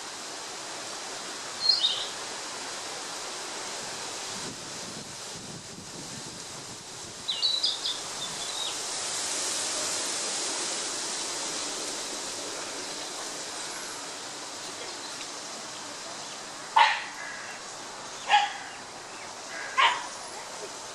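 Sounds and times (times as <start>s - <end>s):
steady rushing background noise: 0.0s - 20.9s.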